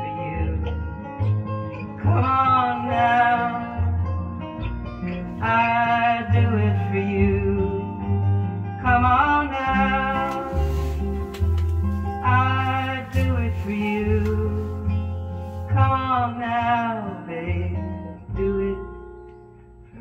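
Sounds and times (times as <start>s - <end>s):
folk song with guitar: 0.0s - 20.0s.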